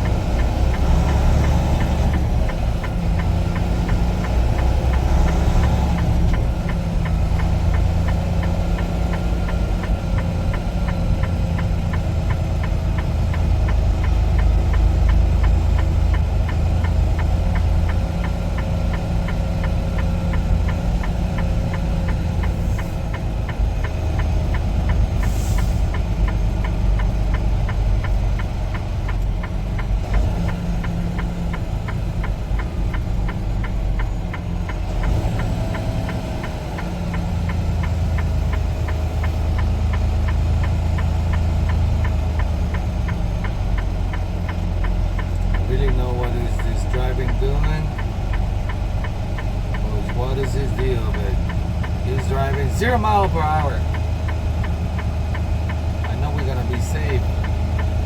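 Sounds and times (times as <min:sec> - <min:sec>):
diesel engine running: 0:00.0 - 0:58.0
rapid ticking: 0:00.0 - 0:58.0.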